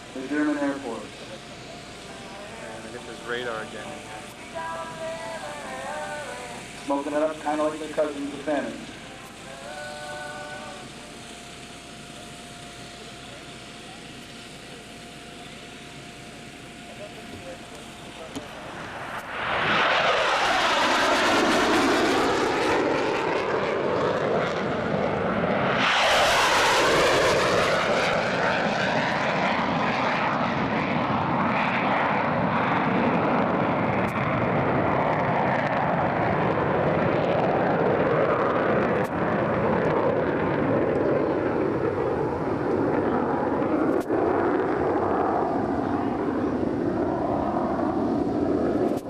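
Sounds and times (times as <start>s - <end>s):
jets passing low: 0.0s - 49.0s.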